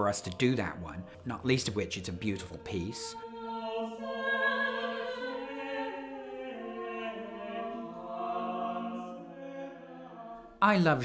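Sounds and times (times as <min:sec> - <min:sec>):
choir singing unaccompanied: 0:00.0 - 0:11.0.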